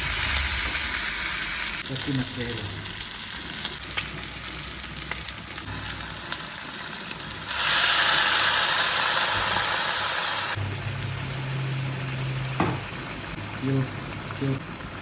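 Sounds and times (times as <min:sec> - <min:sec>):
pork sizzling in a pan: 0:00.0 - 0:15.0.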